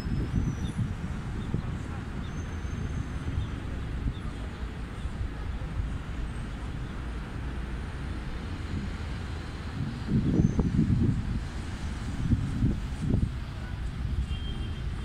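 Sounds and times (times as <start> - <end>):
cars running along street: 0.0 - 15.0.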